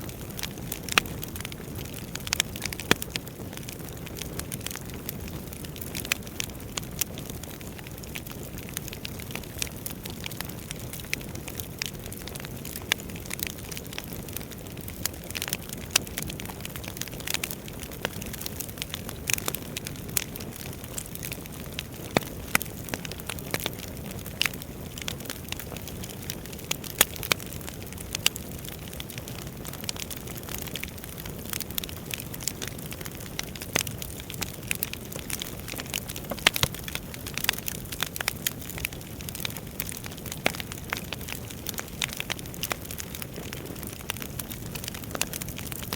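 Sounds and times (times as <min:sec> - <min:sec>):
logs crackling and popping: 0:00.0 - 0:45.9.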